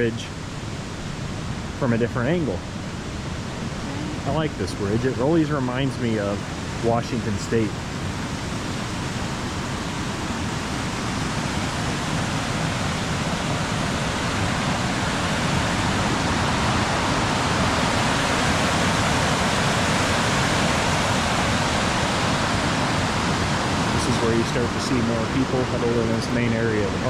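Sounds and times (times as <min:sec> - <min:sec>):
river water flowing: 0:02.5 - 0:27.0
waterfall rushing: 0:03.7 - 0:27.0.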